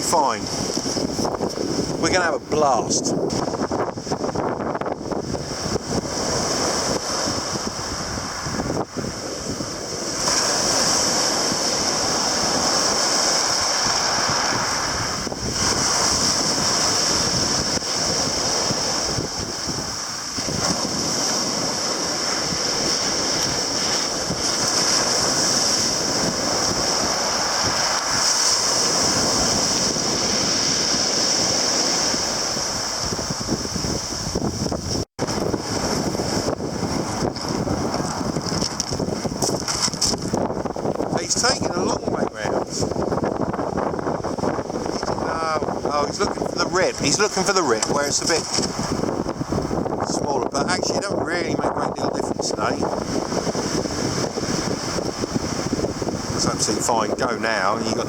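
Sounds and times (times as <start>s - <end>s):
sea waves washing: 0.0s - 58.0s
wind buffeting microphone: 0.0s - 58.0s.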